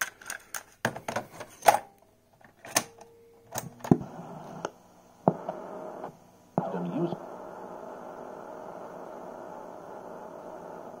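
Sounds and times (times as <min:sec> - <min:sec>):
faint tape hiss: 0:00.0 - 0:11.0.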